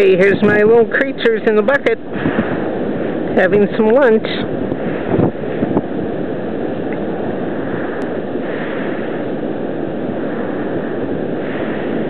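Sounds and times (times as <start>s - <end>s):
surf: 0.0s - 12.0s
wind on microphone: 0.0s - 12.0s.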